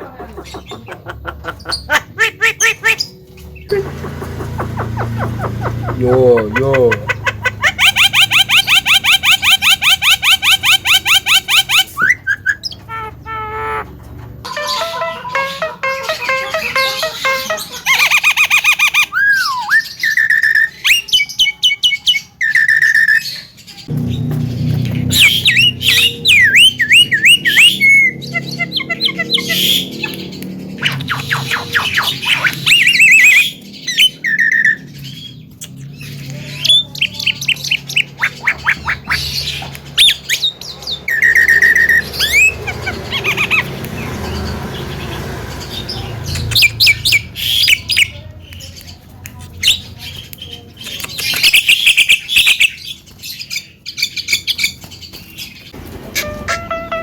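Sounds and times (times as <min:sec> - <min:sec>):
bird chattering and squawking: 0:00.0 - 0:56.8.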